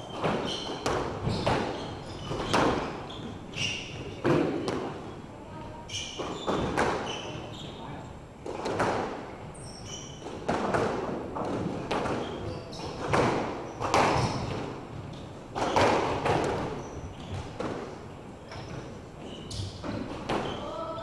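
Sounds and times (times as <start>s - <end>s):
squash ball hitting rackets and walls: 0.0s - 5.2s, 5.9s - 7.5s, 8.4s - 20.8s
shoes squeaking on wooden floor: 0.0s - 8.0s, 8.6s - 21.0s.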